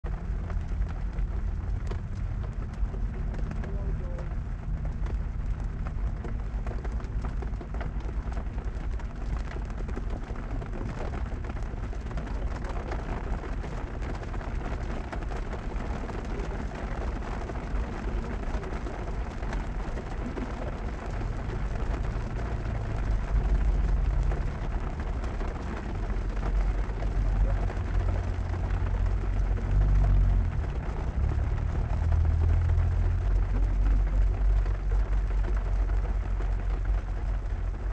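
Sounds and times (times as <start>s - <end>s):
heavy rain on car roof: 0.0s - 37.9s
low rumble: 0.0s - 37.9s.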